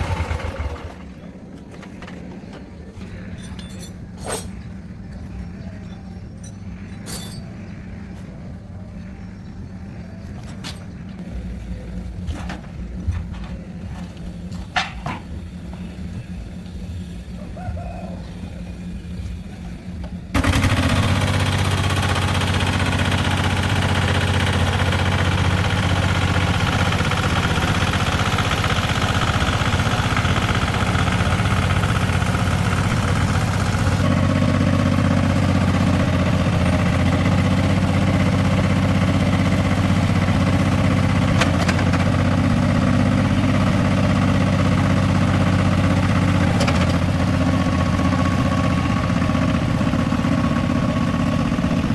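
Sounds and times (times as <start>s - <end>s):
tractor engine idling: 0.0s - 51.9s.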